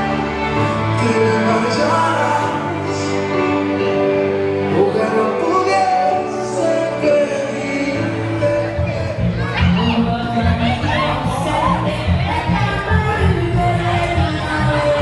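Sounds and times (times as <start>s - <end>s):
slow ballad with singing: 0.0s - 15.0s.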